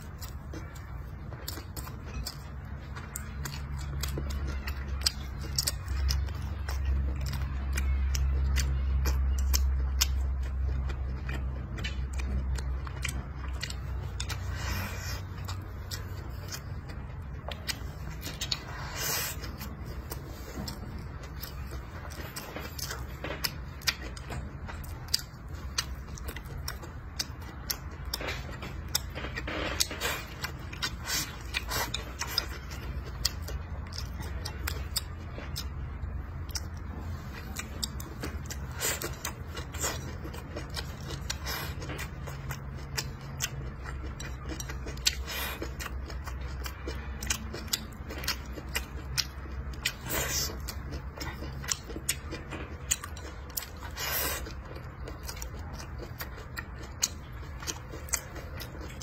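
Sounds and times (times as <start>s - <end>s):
low steady hum: 0.0s - 59.0s
man chewing food: 0.0s - 59.0s.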